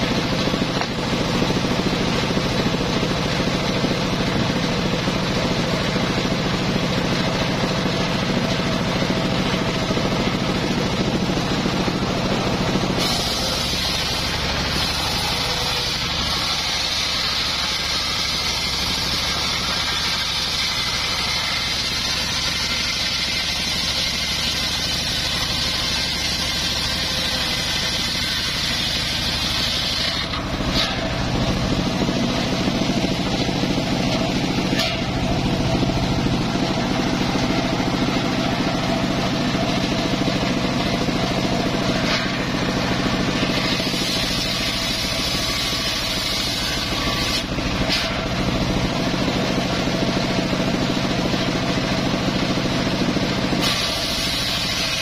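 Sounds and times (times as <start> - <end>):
engine and blade humming: 0.0 - 55.0
saw blade cutting log: 0.0 - 55.0.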